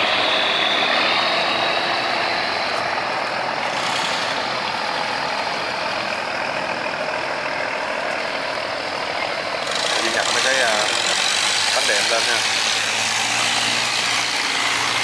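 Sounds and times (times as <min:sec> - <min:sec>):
barge engine running: 0:00.0 - 0:15.0.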